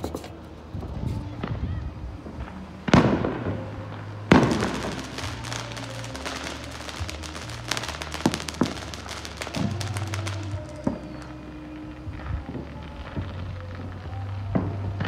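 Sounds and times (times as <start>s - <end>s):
firework bangs: 0.3s - 15.0s
firework crackling pops: 0.4s - 15.0s.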